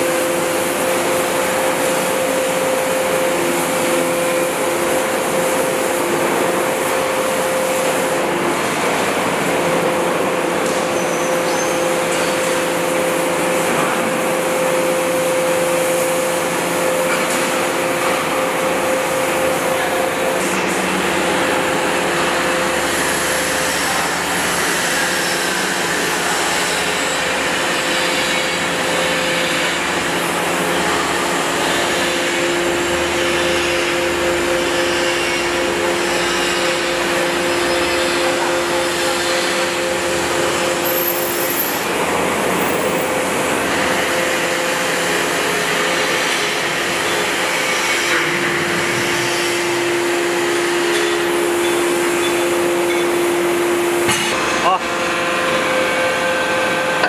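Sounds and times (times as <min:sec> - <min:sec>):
hydraulic power unit humming: 0:00.0 - 0:57.0.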